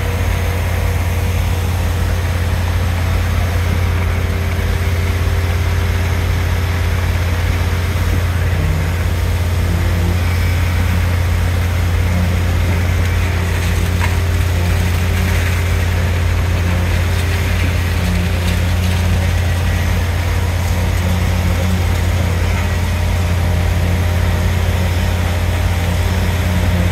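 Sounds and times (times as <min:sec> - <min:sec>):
concrete pump truck droning: 0:00.0 - 0:26.9.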